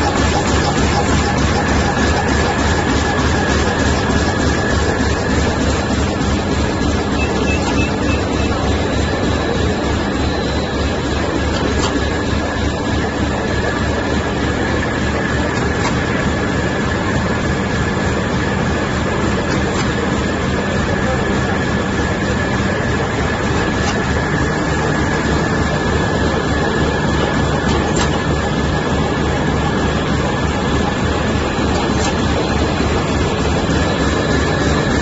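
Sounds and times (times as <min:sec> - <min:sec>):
machine high whine: 0:00.0 - 0:35.0
machine rumbling: 0:00.0 - 0:35.0.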